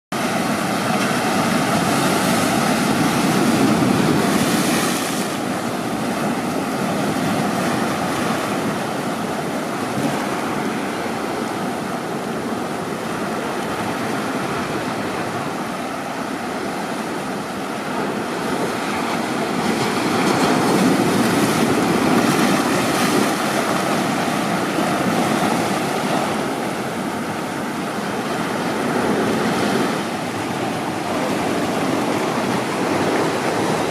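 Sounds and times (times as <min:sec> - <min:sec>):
ocean waves breaking: 0:00.1 - 0:33.9.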